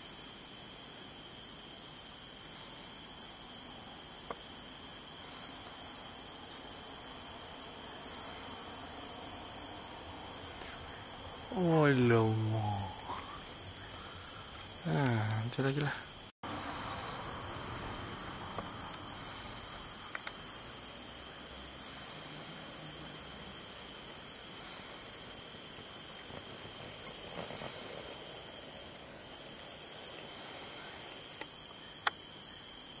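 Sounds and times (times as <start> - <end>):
crickets trilling: 0.0 - 33.0
insect chirping: 0.0 - 33.0.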